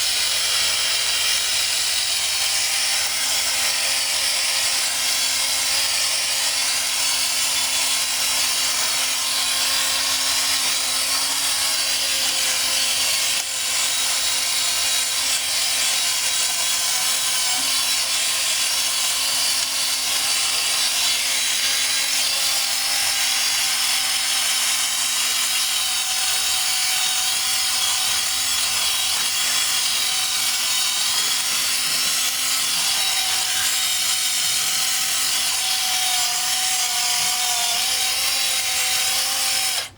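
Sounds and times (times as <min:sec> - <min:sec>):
cordless drill running: 0:00.0 - 0:39.9.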